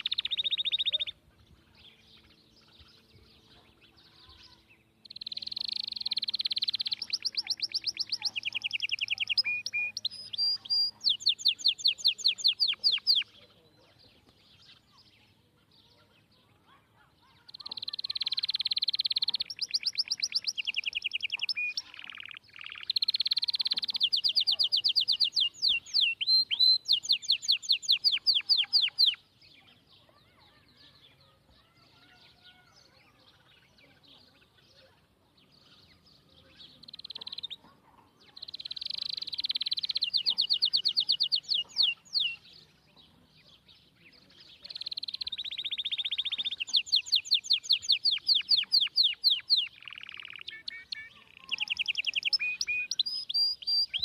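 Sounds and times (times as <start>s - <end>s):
songbird trilling and chirping: 0.0s - 54.0s.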